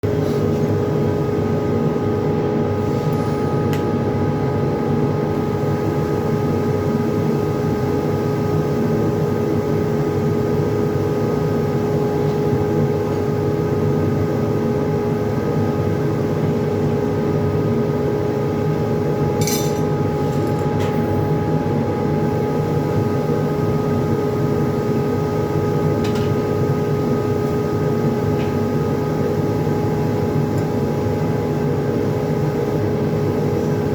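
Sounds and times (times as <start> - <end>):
welding hum and hiss: 0.1 - 33.9.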